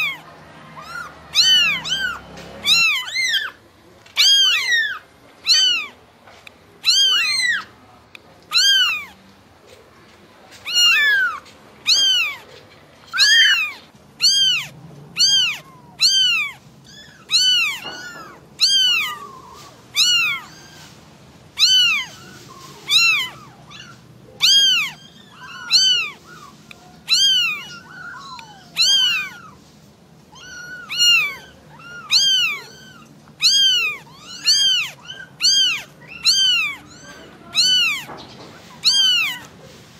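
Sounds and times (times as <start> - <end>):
kittens mewing: 0.0 - 39.8.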